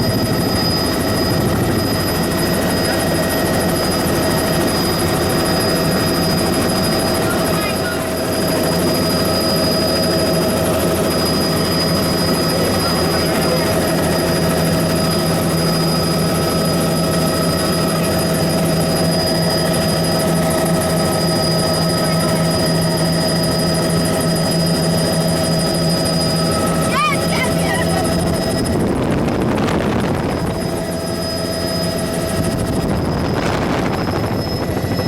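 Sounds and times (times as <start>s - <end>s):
helicopter engine and rotor drone: 0.0s - 35.0s
steady high whine: 0.0s - 35.0s.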